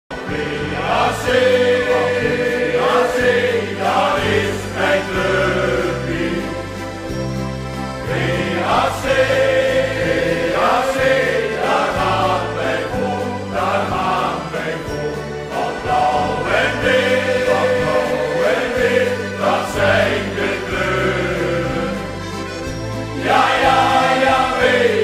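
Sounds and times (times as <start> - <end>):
choir-like singing over chords: 0.1 - 25.0.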